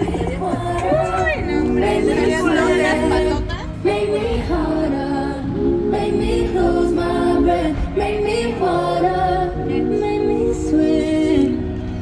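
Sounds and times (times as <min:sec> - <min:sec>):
low musical accompaniment: 0:00.0 - 0:12.0
woman singing: 0:00.0 - 0:12.0.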